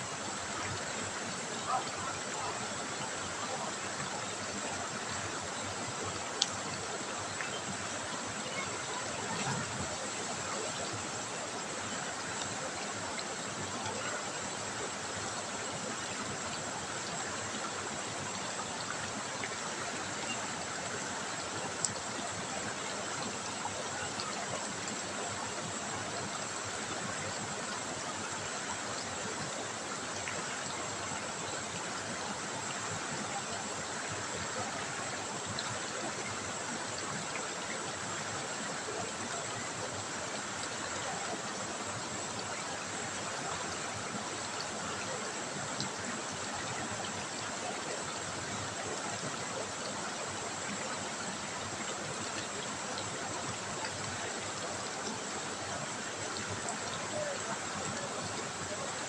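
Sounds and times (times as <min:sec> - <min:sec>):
river water rushing over stones: 0:00.0 - 0:59.0.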